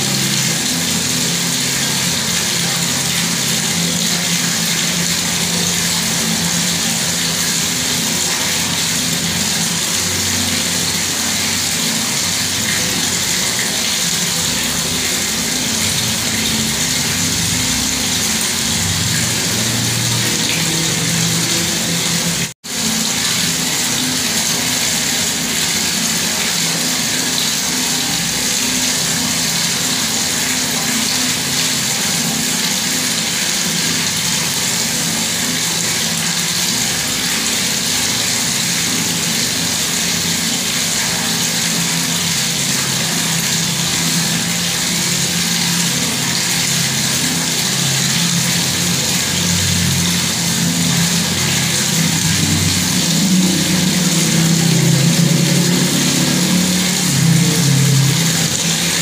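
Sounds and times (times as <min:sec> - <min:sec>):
tap running water: 0:00.0 - 0:59.0.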